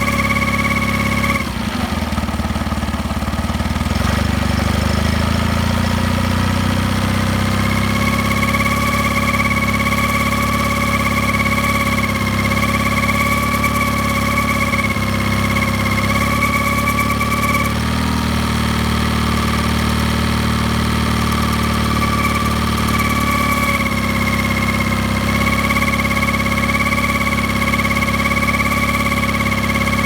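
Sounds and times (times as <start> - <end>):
outboard motor running: 0.0 - 30.0.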